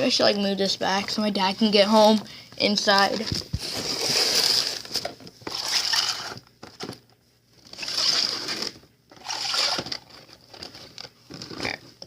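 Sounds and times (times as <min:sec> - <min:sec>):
packages rustling and scraping: 0:00.9 - 0:12.0.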